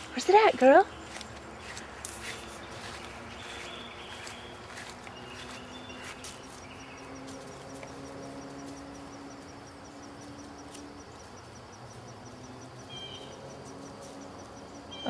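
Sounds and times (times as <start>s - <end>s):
insect chirping in rapid ticks: 2.8s - 15.0s.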